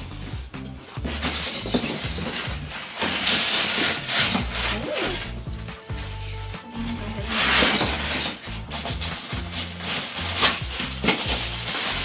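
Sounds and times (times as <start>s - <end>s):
foam packing rubbing and scraping: 0.0s - 12.0s.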